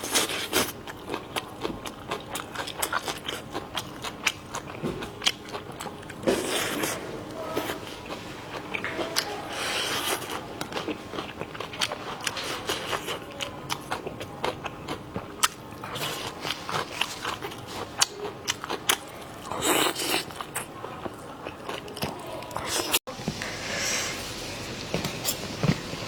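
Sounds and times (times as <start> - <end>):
person chewing food: 0.0 - 23.5.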